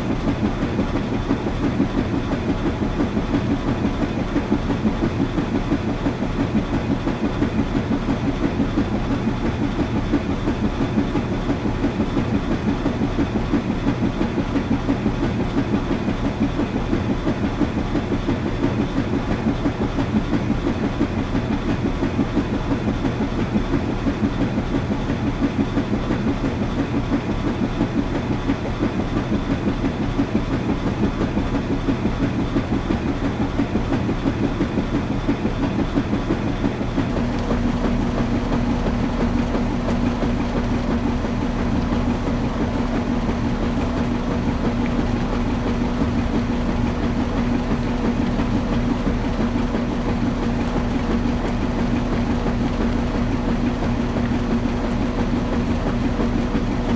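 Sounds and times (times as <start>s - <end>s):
washing machine running: 0.0s - 56.9s.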